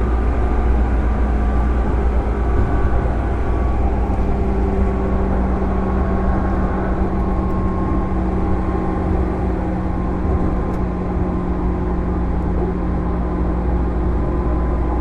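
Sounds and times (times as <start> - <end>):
traction motor hum: 0.0 - 15.0
train interior running rumble: 0.0 - 15.0.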